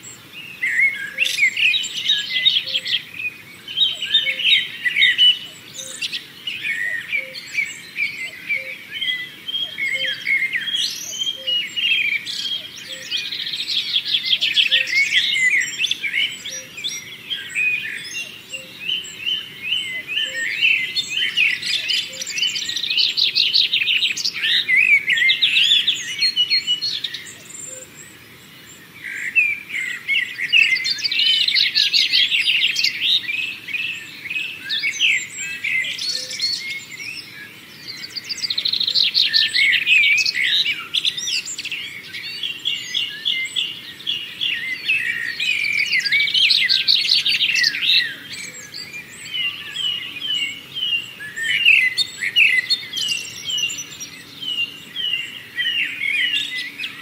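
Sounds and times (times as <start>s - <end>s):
songbirds warbling and chirping: 0.0s - 57.0s.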